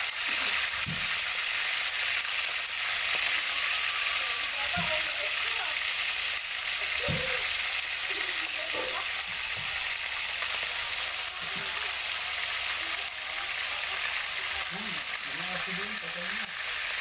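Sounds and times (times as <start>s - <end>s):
pork sizzling in hot oil: 0.0s - 17.0s.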